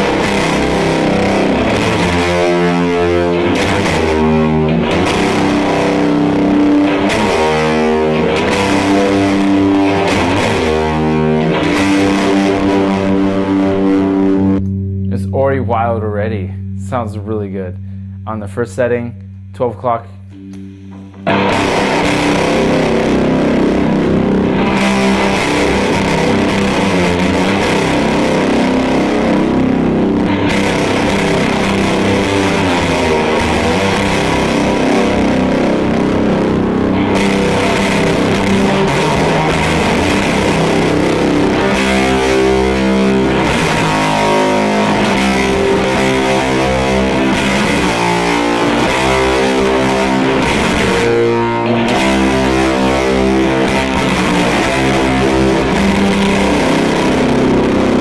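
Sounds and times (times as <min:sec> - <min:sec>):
fuzz electric guitar chords: 0:00.0 - 0:58.0.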